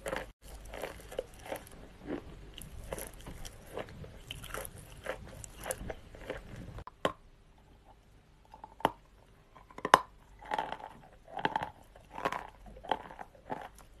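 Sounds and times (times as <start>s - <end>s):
dry clay crunching being chewed: 0.0s - 6.9s, 8.4s - 14.0s.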